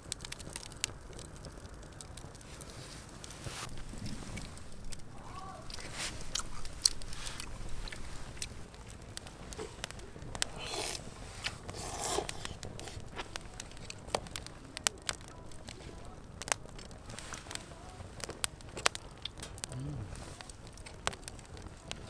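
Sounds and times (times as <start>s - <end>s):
crunchy food being chewed: 0.1s - 22.0s.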